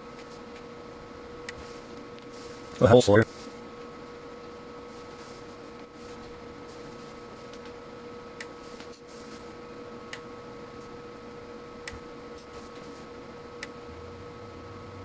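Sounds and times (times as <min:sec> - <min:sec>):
steady electrical whine: 0:00.0 - 0:15.0.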